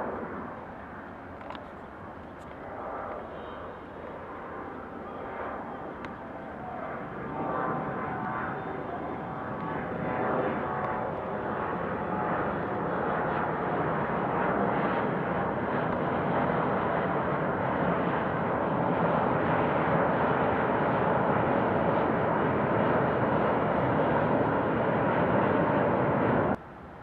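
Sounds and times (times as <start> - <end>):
jet engines roaring: 0.0 - 26.6.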